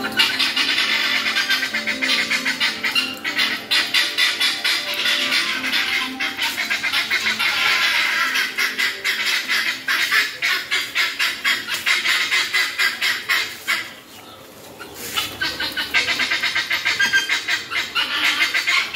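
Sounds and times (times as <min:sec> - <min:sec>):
guineafowl alarm calling: 0:00.0 - 0:18.9.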